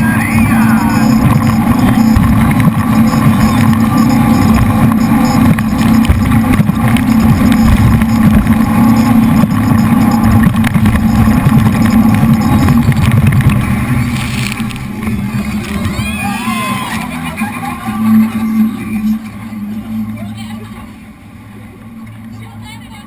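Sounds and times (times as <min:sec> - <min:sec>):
boat engines rumbling: 0:00.0 - 0:23.0.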